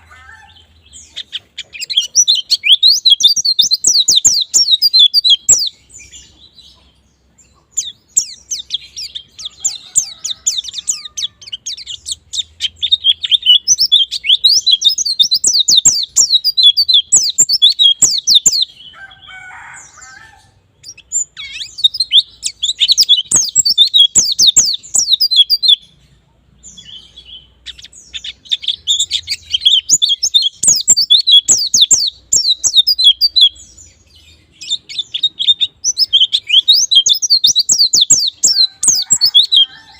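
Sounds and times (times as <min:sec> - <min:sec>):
bird rapid high twittering: 0:00.9 - 0:06.3, 0:07.6 - 0:18.8, 0:20.8 - 0:25.8, 0:26.9 - 0:39.9.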